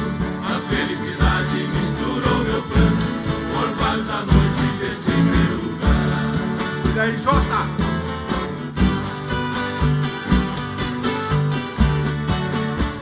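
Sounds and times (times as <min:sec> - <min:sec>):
bass notes: 0:00.0 - 0:13.0
strummed acoustic guitars: 0:00.0 - 0:13.0.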